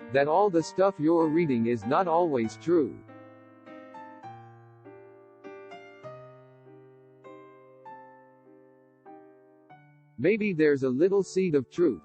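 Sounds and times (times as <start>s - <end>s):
electric piano chords: 0.0s - 10.5s.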